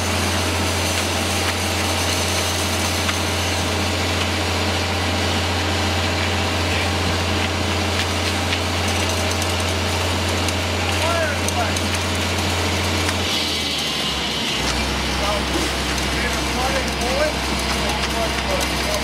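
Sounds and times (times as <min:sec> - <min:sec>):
concrete pump diesel engine drone: 0:00.0 - 0:19.0.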